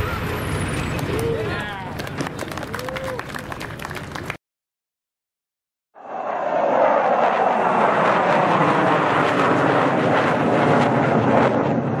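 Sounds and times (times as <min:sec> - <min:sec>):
fighter jet engines roaring: 0:00.0 - 0:04.3, 0:06.0 - 0:12.0.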